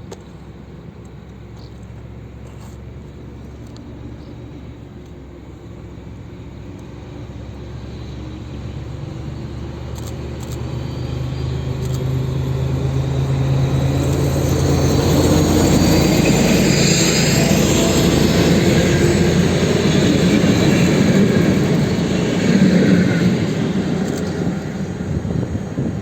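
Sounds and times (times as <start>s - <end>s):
diesel locomotive engine drone: 0.0s - 26.0s
rail and wheel noise: 0.0s - 26.0s.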